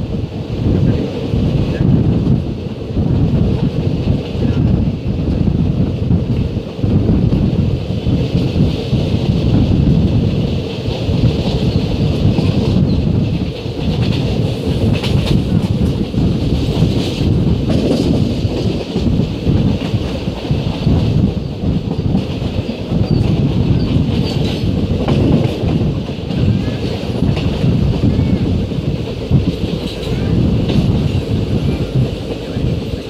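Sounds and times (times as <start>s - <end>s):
clatter over the track: 0.0s - 33.0s
train wheels rumbling on rails: 0.0s - 33.0s.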